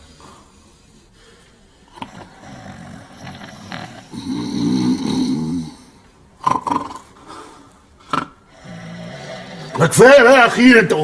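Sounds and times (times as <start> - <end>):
men snoring: 1.8 - 10.7.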